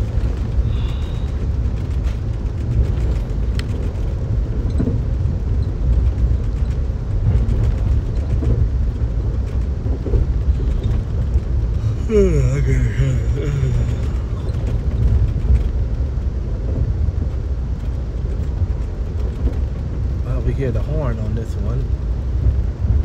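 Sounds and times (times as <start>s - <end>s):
train coach rumbling on rails: 0.0s - 23.0s.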